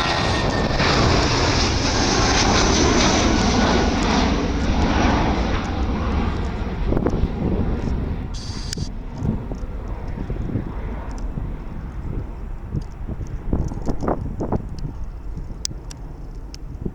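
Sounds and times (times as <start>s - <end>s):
loud jet engine roar: 0.0s - 16.0s.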